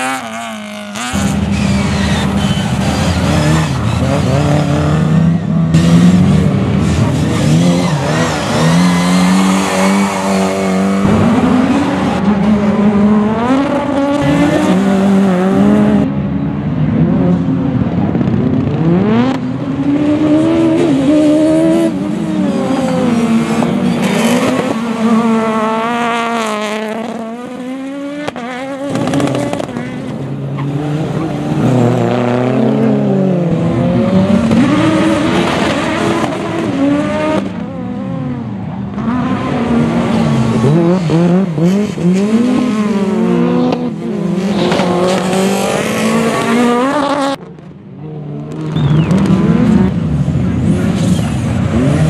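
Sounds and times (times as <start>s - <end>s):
rally car engine revving: 0.0s - 52.0s.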